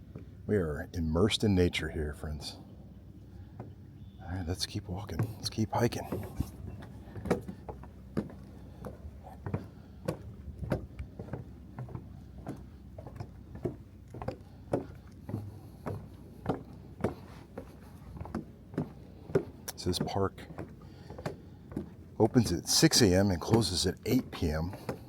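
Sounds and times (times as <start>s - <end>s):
footsteps on wooden boardwalk: 0.0s - 0.4s, 2.6s - 25.0s.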